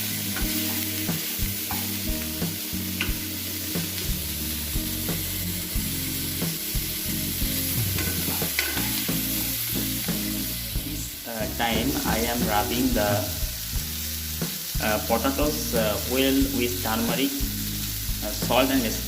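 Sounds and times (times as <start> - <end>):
potatoes sizzling in oil: 0.0 - 19.0.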